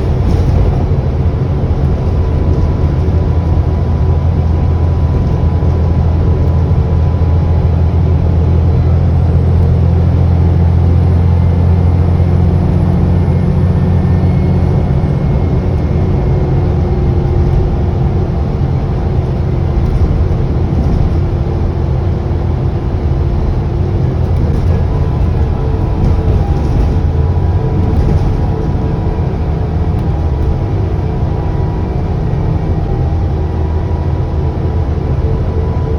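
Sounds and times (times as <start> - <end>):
bus diesel engine drone: 0.0 - 35.9
faint turbo whine: 0.0 - 35.9.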